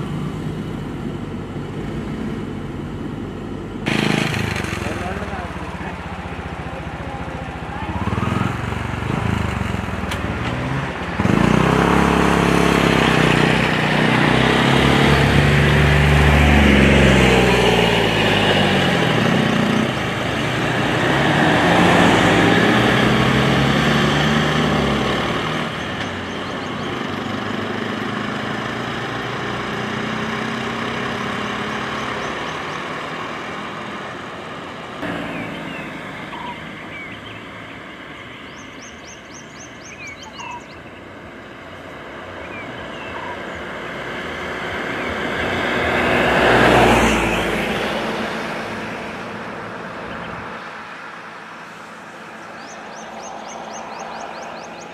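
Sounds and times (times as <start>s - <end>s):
auto-rickshaw engine: 0.0s - 54.9s
motorcycle engine: 0.0s - 54.9s.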